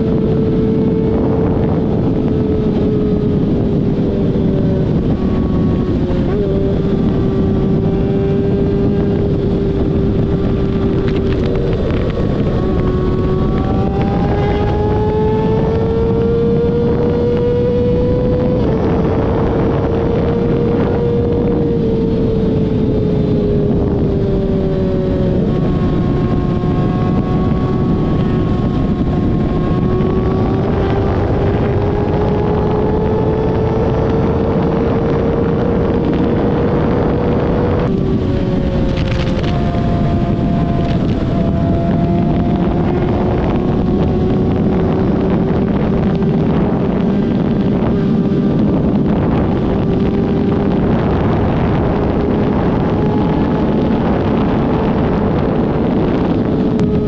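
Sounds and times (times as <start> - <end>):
vehicle engine running: 0.0 - 57.0
wind noise on microphone: 0.0 - 57.0.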